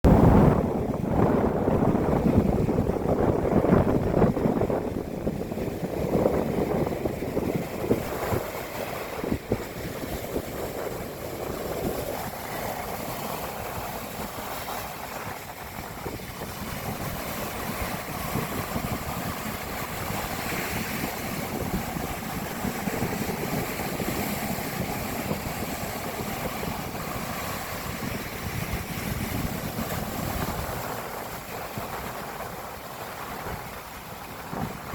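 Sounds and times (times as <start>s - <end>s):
rough sea surf breaking: 0.0s - 34.9s
wind buffeting microphone: 0.0s - 34.9s.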